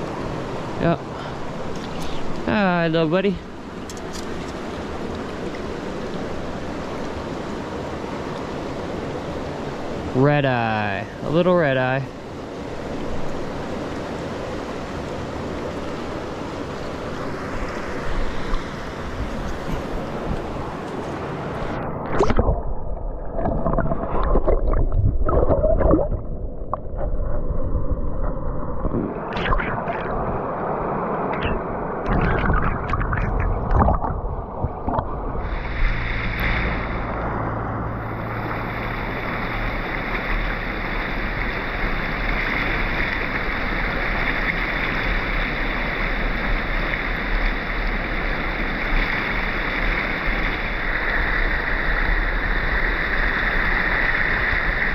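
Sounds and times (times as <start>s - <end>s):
water rushing over rapids: 0.0s - 27.1s, 28.3s - 54.9s
water splashing and sloshing: 0.0s - 54.9s.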